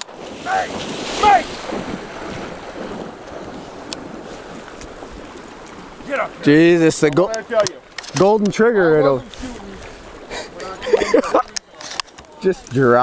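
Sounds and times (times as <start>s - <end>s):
water splashing: 0.0s - 13.0s
wind buffeting microphone: 0.0s - 13.0s.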